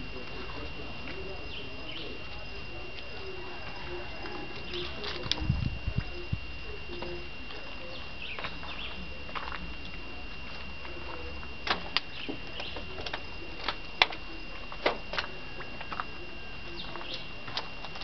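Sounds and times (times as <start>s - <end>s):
thin high-pitched whine: 0.0s - 18.0s.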